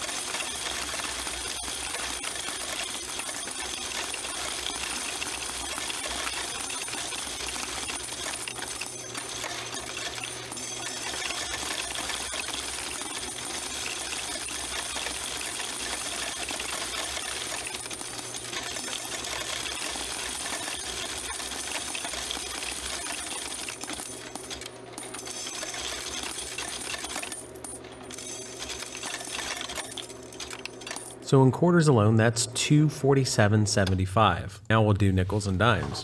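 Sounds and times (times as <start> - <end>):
coins rattling in coin sorter: 0.0 - 31.2.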